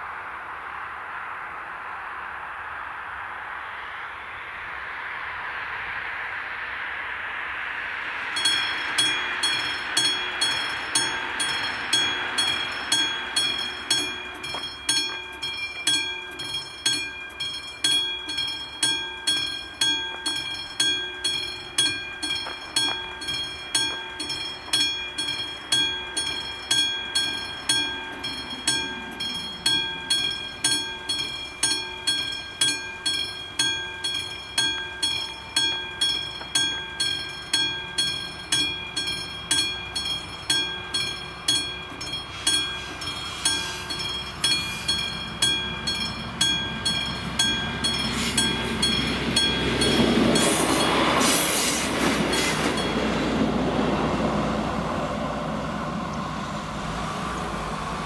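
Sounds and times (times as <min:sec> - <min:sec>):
level-crossing warning bell ringing: 0:07.8 - 0:58.0.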